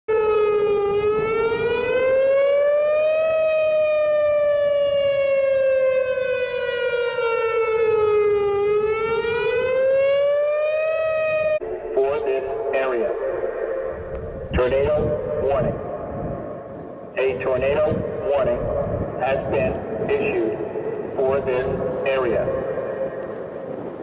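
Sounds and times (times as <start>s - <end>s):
warning siren wailing: 0.1s - 24.0s.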